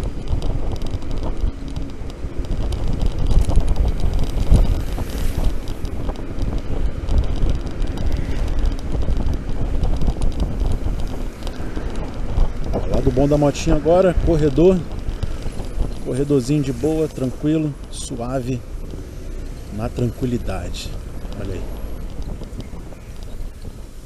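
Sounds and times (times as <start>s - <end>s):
road and traffic noise: 0.0s - 24.0s
wind buffeting microphone: 0.0s - 24.0s.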